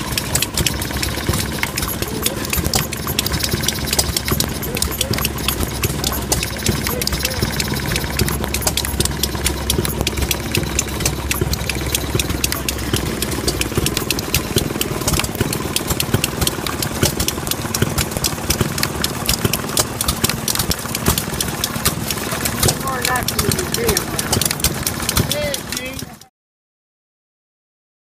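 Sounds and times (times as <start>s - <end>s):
small gas engine clicking and popping: 0.0s - 26.3s.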